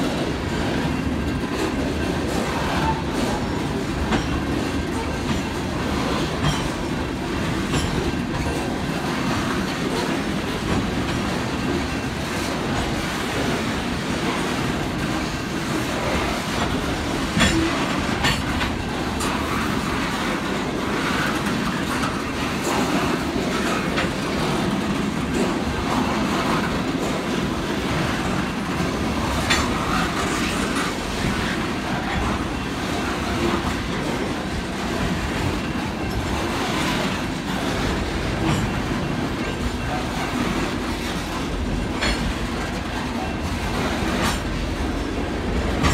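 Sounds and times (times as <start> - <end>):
clickety-clack over rail joints: 0.0 - 45.9
steel wheels rumbling on rails: 0.0 - 45.9.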